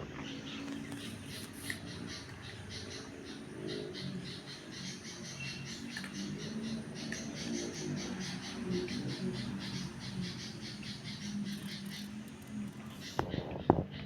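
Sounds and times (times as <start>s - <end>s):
birds chirping: 0.0s - 14.0s
low background noise: 0.0s - 14.0s.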